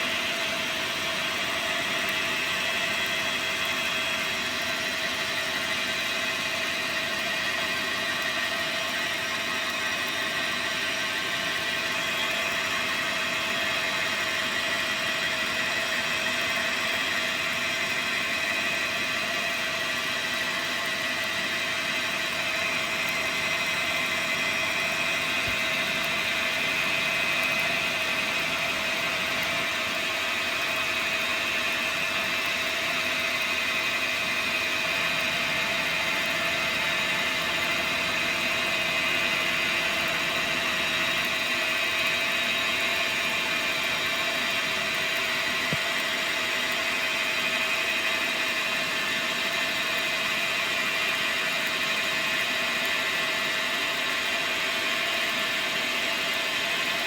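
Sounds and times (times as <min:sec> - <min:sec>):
lathe mechanical whine: 0:00.0 - 0:57.0.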